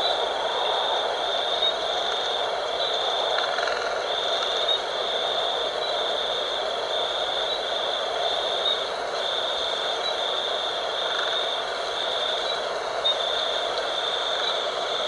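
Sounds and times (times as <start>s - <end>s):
wind blowing: 0.0s - 15.0s.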